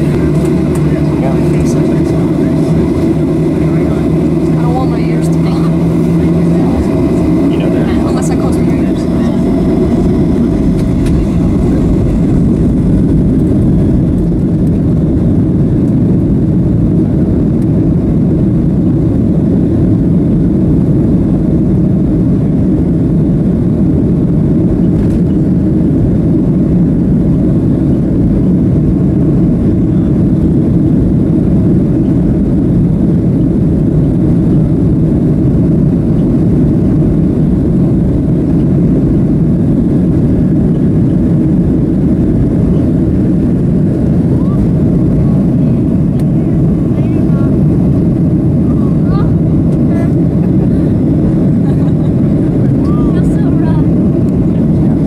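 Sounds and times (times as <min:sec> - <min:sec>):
airframe and wheels rumbling: 0:00.0 - 0:55.0
jet engines running: 0:00.0 - 0:55.0.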